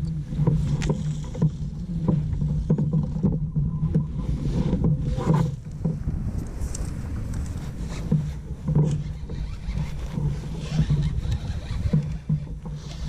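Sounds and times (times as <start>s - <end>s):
water around a kayak: 0.0s - 13.0s
wind rumbling on microphone: 0.0s - 13.0s.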